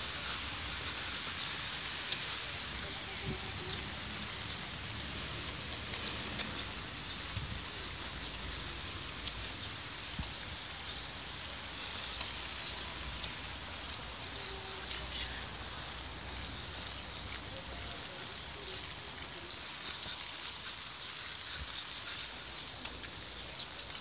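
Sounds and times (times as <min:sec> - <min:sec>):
faint voices: 0:00.0 - 0:24.0
rain on stone paving: 0:00.0 - 0:24.0.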